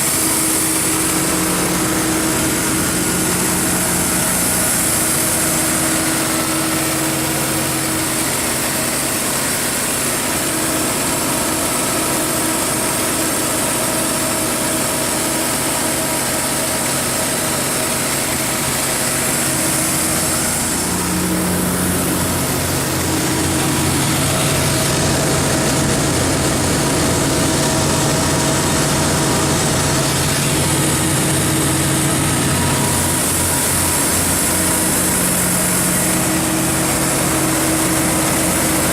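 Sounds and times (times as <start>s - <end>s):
diesel generator running: 0.0s - 38.9s.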